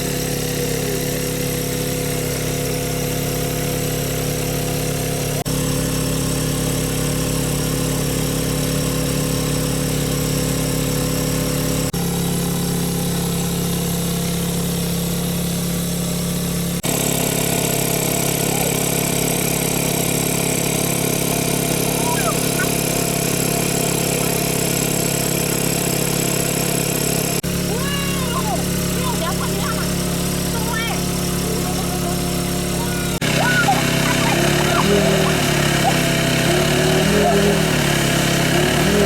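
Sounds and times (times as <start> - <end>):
small engine driving water pump: 0.0 - 39.0.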